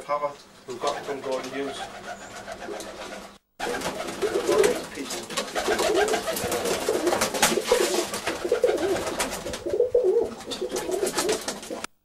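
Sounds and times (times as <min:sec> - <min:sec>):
pigeons cooing: 0:00.7 - 0:11.9
wings fluttering: 0:00.7 - 0:11.9.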